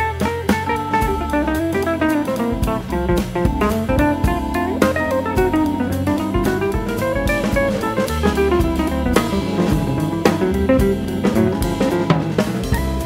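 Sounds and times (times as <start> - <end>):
guitar and drum kit music: 0.0 - 13.0.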